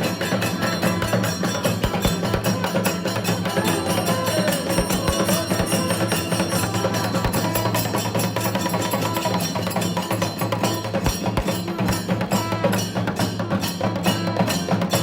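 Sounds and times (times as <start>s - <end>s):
fast steady drumbeat: 0.0s - 15.0s.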